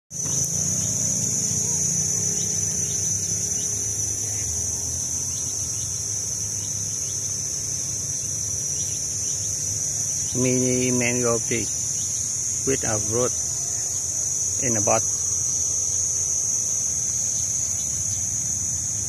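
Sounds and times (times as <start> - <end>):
insects chorus: 0.1 - 19.0
low hum: 0.2 - 19.0.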